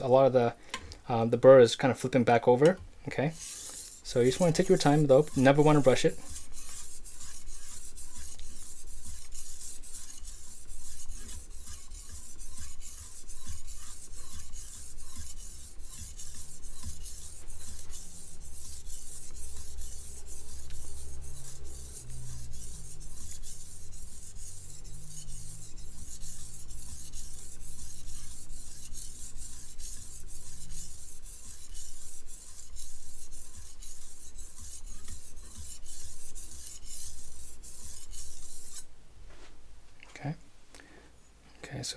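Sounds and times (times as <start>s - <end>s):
knife scraping on whetstone: 3.3s - 38.9s.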